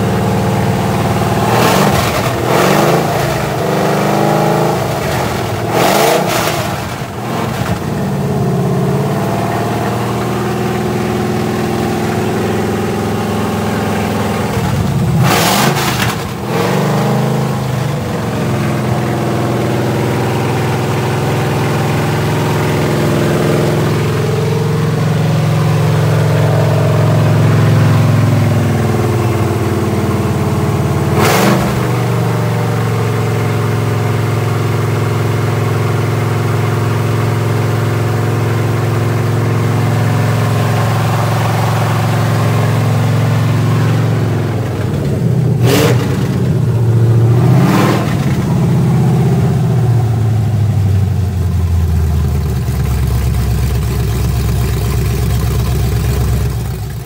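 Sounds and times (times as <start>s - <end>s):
car engine revving through open headers: 0.0s - 51.5s.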